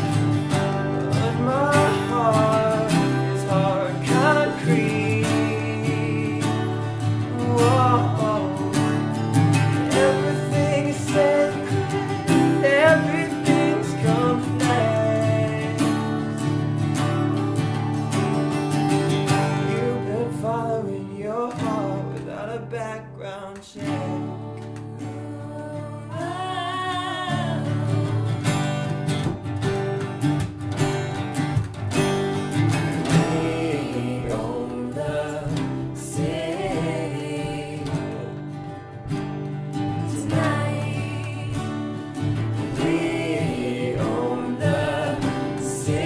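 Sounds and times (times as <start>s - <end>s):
acoustic guitars strumming: 0.0s - 46.0s
voices singing: 0.5s - 16.4s, 19.4s - 28.8s, 32.9s - 46.0s.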